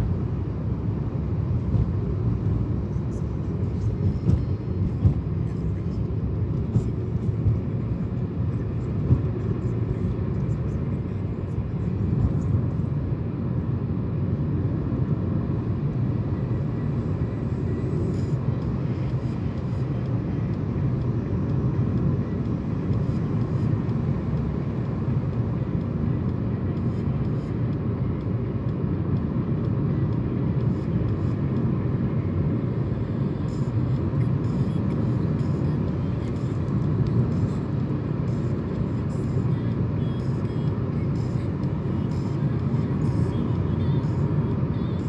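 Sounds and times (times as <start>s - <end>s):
road noise inside car cabin: 0.0s - 45.0s.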